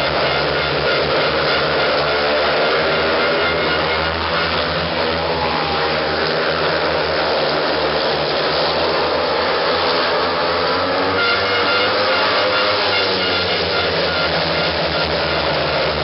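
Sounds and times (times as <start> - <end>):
motorcycle engines racing at high revs: 0.0 - 16.0.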